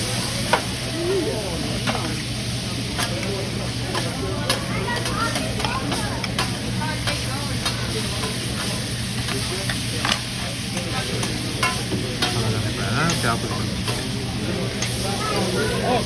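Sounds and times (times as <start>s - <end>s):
food sizzling on griddle: 0.0s - 16.0s
spatulas tapping griddle: 2.9s - 16.0s.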